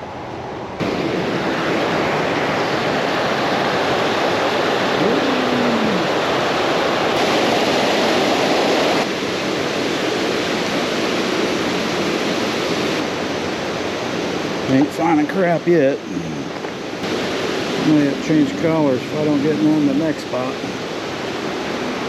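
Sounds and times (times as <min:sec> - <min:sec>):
creek water rushing: 0:00.8 - 0:22.0.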